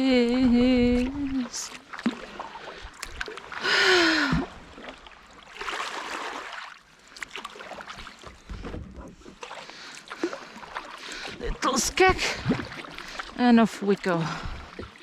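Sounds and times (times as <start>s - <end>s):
kayak paddle strokes in water: 0.1s - 15.0s.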